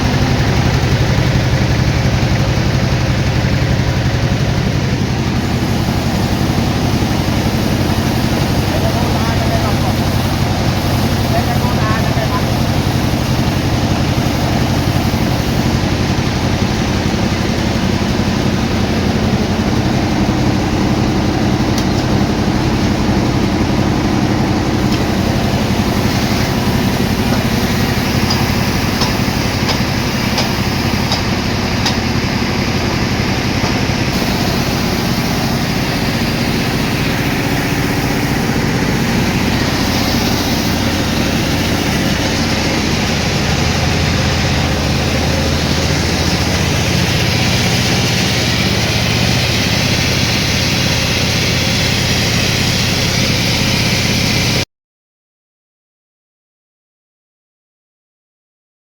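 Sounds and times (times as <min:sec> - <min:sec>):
sawmill machinery drone: 0:00.0 - 0:54.6.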